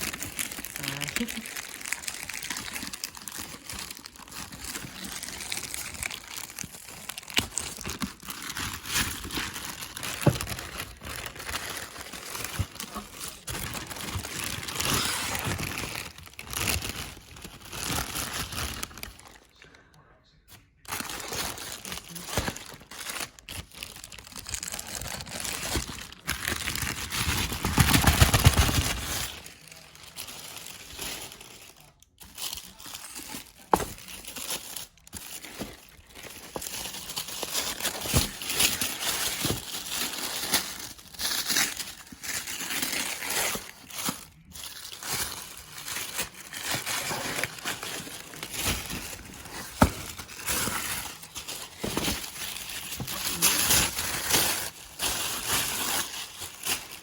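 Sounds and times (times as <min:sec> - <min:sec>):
packaging crinkling and rustling: 0:00.0 - 0:19.8, 0:20.5 - 0:57.0.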